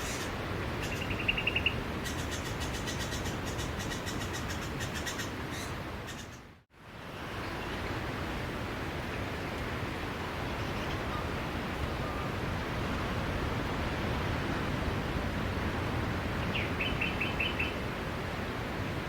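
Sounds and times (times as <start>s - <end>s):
sea waves rushing: 0.0s - 6.1s, 6.8s - 19.0s.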